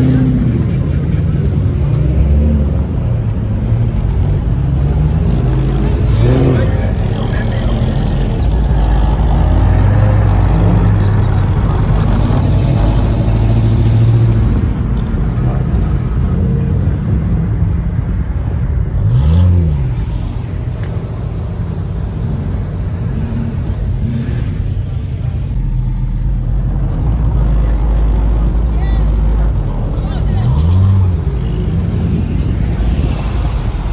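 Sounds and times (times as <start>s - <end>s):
car engine rumbling and revving: 0.0s - 33.9s.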